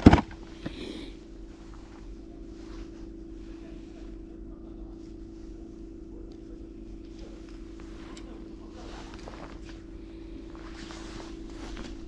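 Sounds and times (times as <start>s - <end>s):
faint rumble: 0.0s - 12.0s
low machine hum: 0.0s - 12.0s.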